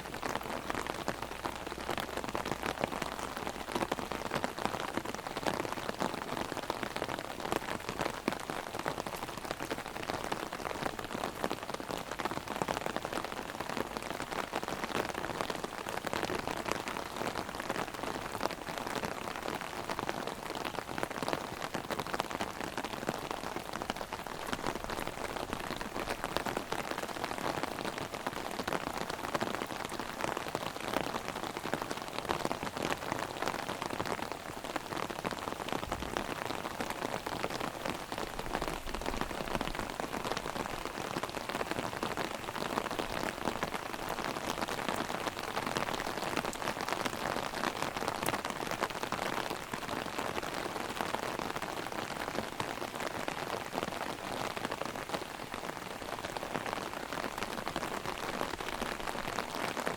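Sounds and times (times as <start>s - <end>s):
heavy rain on an umbrella: 0.0s - 59.9s.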